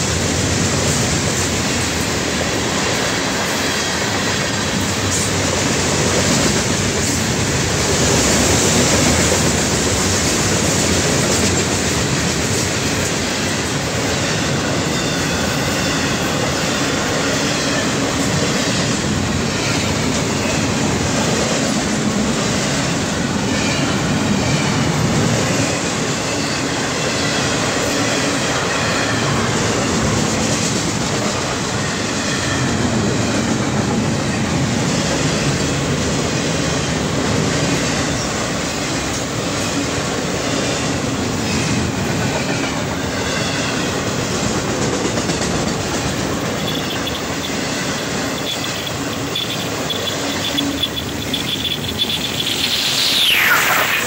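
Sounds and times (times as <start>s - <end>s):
wheels clattering on rails: 0.0s - 53.6s
freight train rumbling past: 0.0s - 54.0s.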